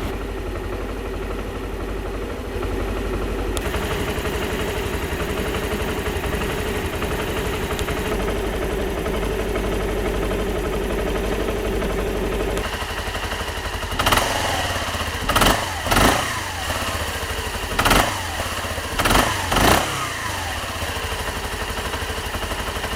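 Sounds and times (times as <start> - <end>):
scooter engine idling: 0.0 - 22.9
scooter engine revving: 0.0 - 22.9.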